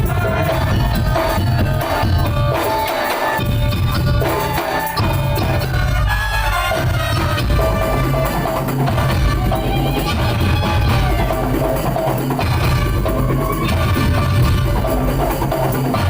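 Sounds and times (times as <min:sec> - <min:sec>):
drum ensemble with melodic line: 0:00.0 - 0:16.0.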